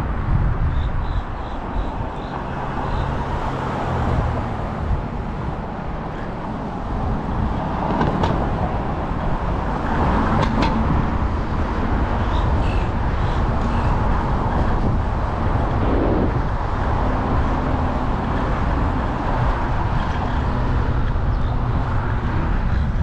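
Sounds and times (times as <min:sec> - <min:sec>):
car traffic: 0:00.0 - 0:23.0
scooter road rumble: 0:00.0 - 0:23.0
wind noise: 0:00.0 - 0:23.0.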